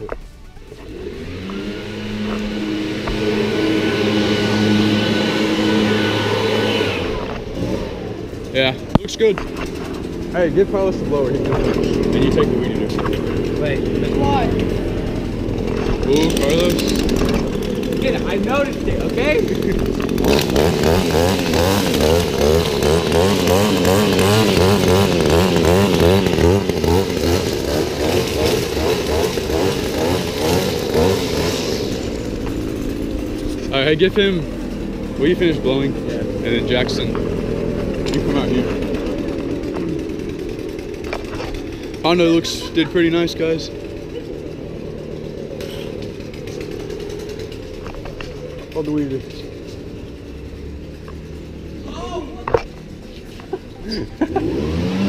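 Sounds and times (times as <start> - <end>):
leaf blower engine drone: 0.0 - 55.0.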